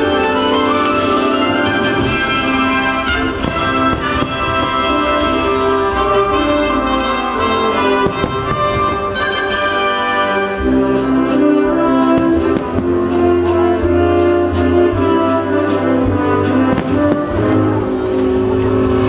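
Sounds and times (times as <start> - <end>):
fireworks bursting: 0.0 - 13.8, 16.4 - 19.0
orchestral music: 0.0 - 19.0.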